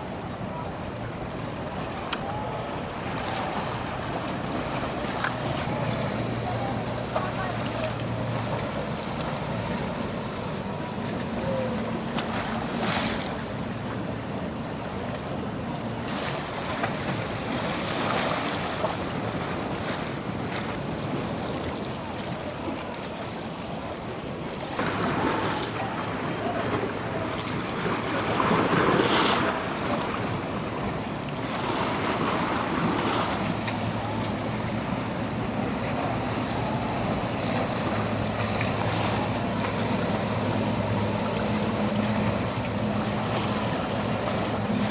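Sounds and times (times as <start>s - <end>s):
boat engines droning: 0.0s - 44.9s
waves breaking against jetty: 0.0s - 44.9s.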